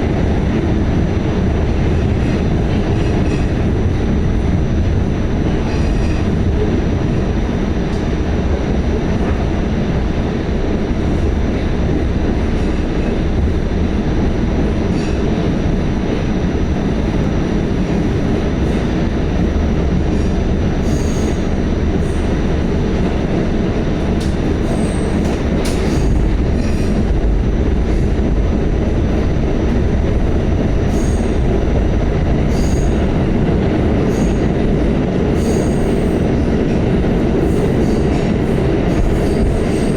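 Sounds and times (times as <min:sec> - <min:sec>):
subway train wheels rumbling: 0:00.0 - 0:39.9.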